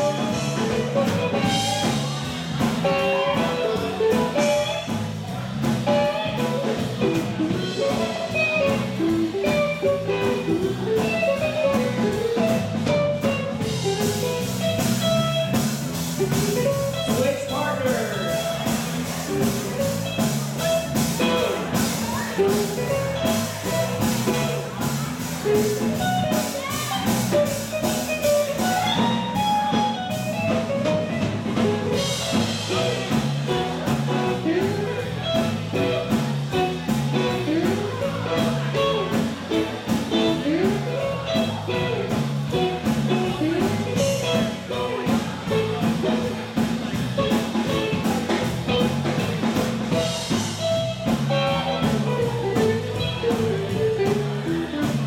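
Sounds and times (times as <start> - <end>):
blues swing band playing: 0.0 - 55.0
drum kit beat: 0.0 - 55.0
electric guitar: 0.0 - 55.0.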